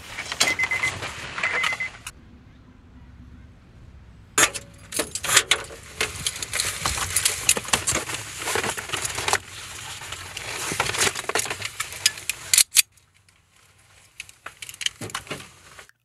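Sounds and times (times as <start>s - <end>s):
objects being rummaged: 0.0s - 2.1s, 4.4s - 15.9s.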